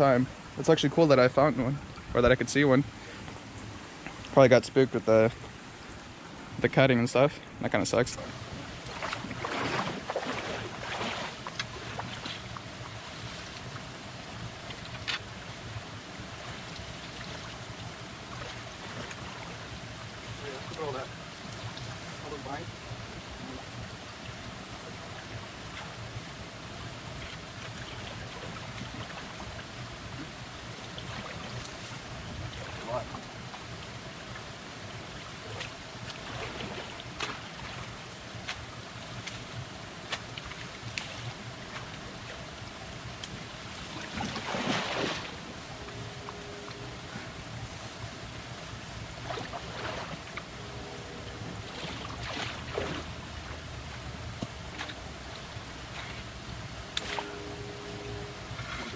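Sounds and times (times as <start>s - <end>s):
creek water flowing: 0.0s - 58.9s.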